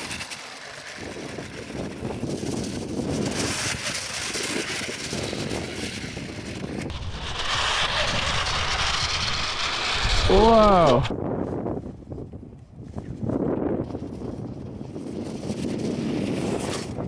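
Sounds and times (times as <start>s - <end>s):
toy snowcat motors and tracks: 0.0s - 11.1s, 13.5s - 17.0s
wind on microphone: 1.0s - 17.0s.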